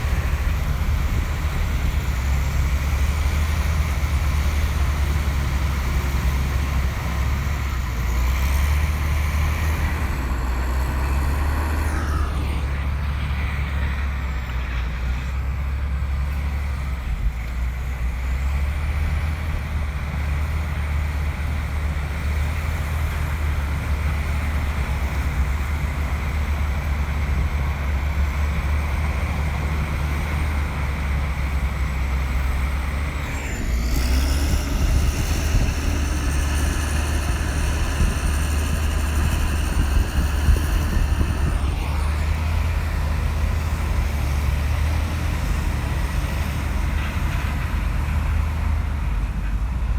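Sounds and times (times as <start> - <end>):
bulldozer diesel engine rumbling: 0.0 - 49.9.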